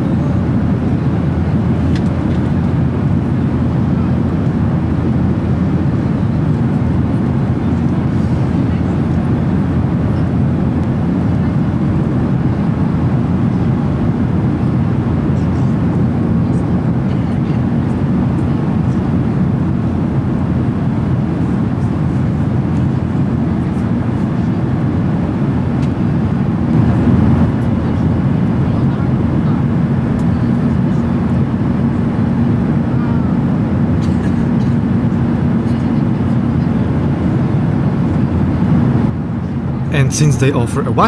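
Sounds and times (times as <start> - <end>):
airplane cabin engine rush: 0.0 - 41.0.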